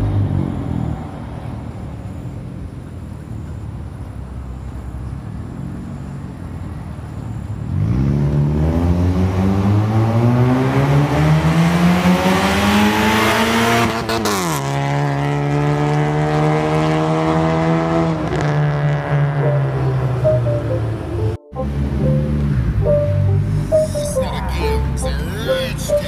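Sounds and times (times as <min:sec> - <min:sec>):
car engine accelerating hard: 0:00.0 - 0:03.1, 0:04.0 - 0:25.0.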